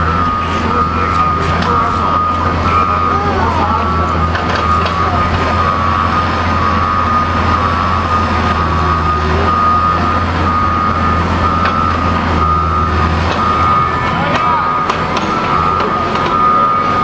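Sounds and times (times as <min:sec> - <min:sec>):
excavator diesel engine running: 0:00.0 - 0:17.0
high-pitched tone: 0:00.0 - 0:17.0.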